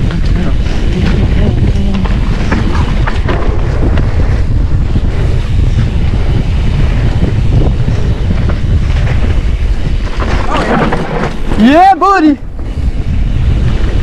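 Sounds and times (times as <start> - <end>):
bike tyres rolling on dirt: 0.0 - 14.0
wind on microphone: 0.0 - 14.0.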